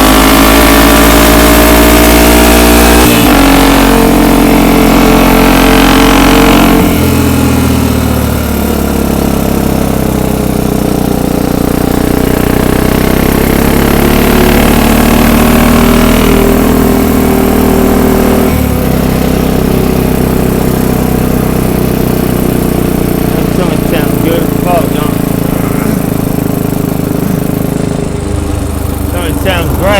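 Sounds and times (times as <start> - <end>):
atv engine running: 0.0 - 29.9.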